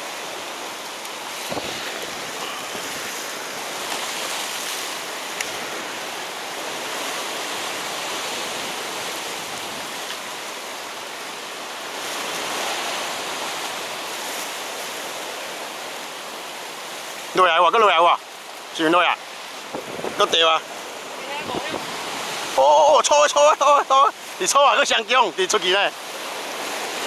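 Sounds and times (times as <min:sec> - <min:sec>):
sea surf washing on shore: 0:00.0 - 0:27.0.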